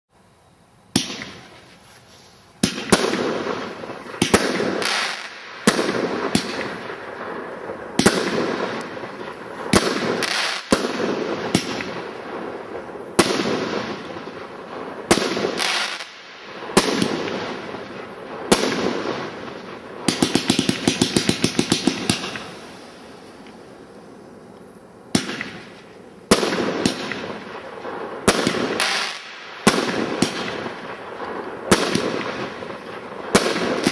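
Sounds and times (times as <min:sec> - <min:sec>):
firework crackles: 0:00.2 - 0:33.9
firework bangs with hiss: 0:00.9 - 0:33.9.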